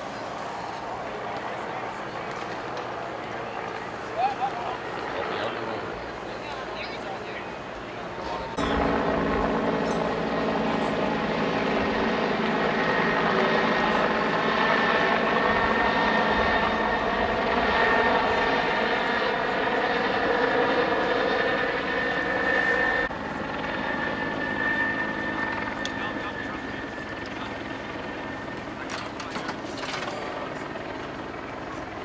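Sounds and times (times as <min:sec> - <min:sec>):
helicopter running overhead: 0:00.0 - 0:32.0.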